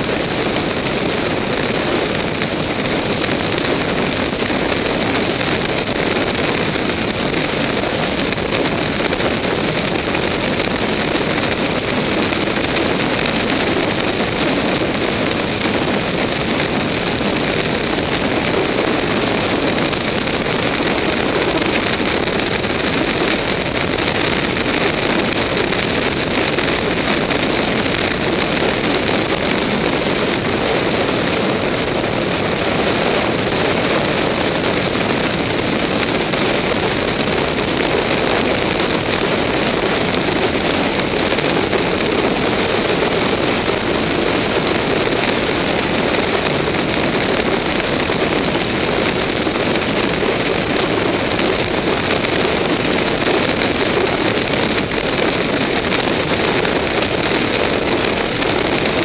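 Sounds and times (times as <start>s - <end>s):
motorcycle engine and tyre noise: 0.0s - 59.0s
wind rush on microphone: 0.0s - 59.0s.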